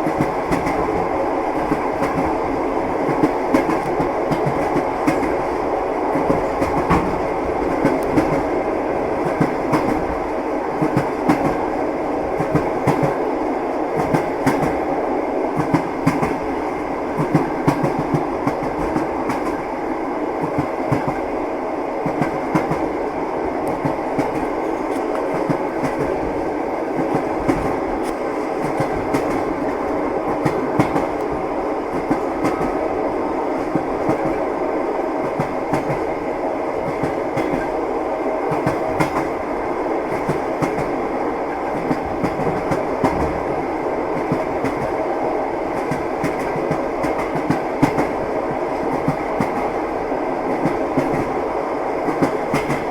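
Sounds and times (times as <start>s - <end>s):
train wheels clattering on rails: 0.0s - 14.9s, 15.5s - 19.8s, 20.4s - 21.4s, 22.0s - 52.9s.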